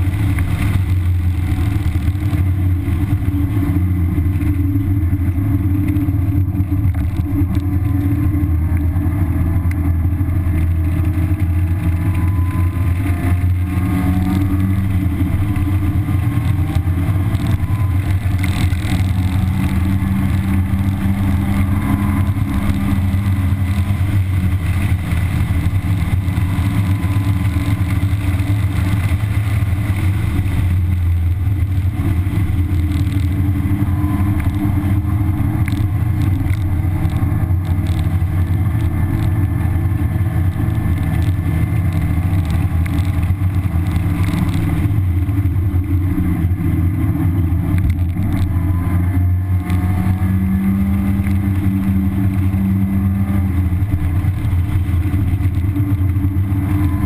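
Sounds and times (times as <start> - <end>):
car engine running hard: 0.0 - 57.0
road and wind noise: 0.0 - 57.0.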